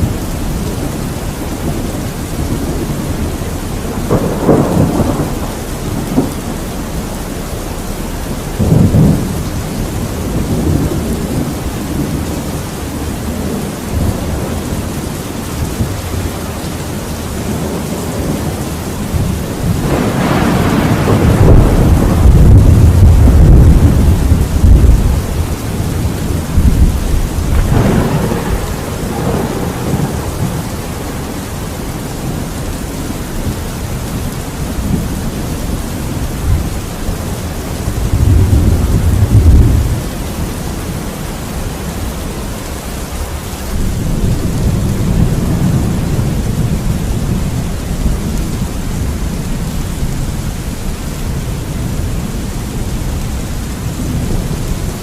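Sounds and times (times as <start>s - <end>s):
heavy rain hiss: 0.0s - 55.0s
rolling thunder: 0.0s - 55.0s.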